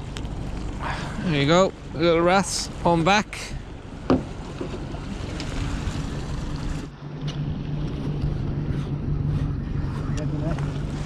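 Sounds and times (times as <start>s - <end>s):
sea water noise: 0.0s - 11.0s
steady low hum: 0.0s - 11.0s
wind buffeting microphone: 0.0s - 11.0s.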